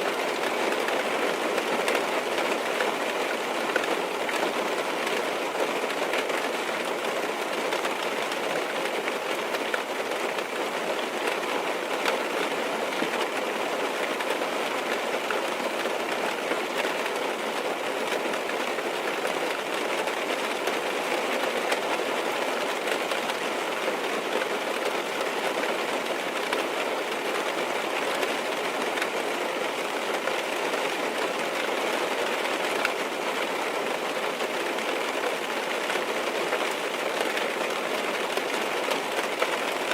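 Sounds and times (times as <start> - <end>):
rain tapping on car windows: 0.1 - 39.9.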